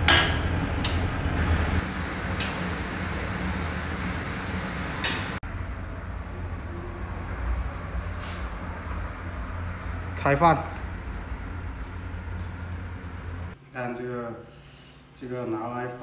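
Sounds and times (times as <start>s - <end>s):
steady low hum: 0.0s - 15.3s.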